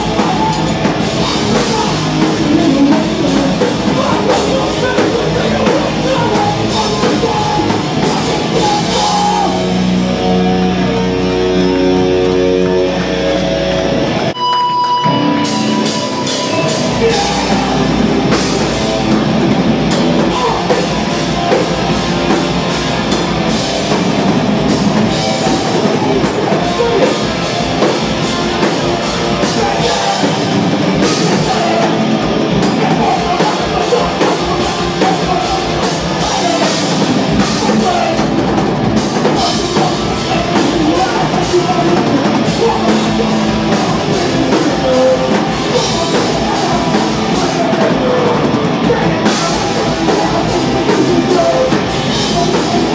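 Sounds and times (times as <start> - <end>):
punk band playing loud and fast: 0.0 - 52.9.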